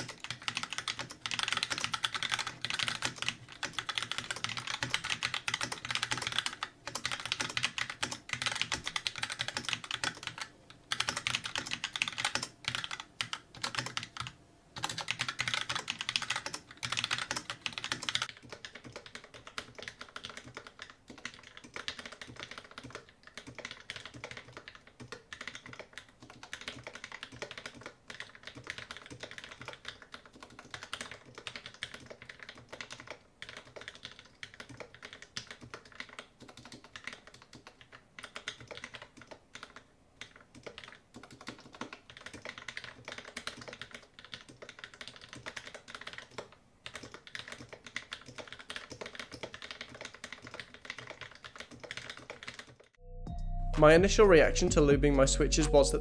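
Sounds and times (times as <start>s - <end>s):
mechanical keyboard typing: 0.0s - 52.9s.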